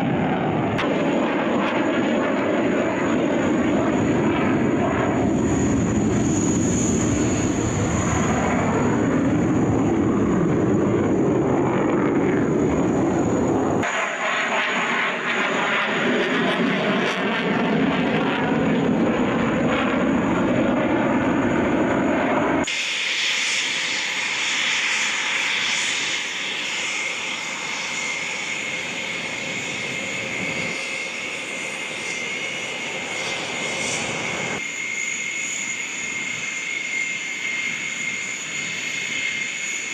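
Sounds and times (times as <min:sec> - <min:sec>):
fighter jet flying overhead: 0:00.0 - 0:39.9
jet engines whining on ground: 0:00.0 - 0:39.9.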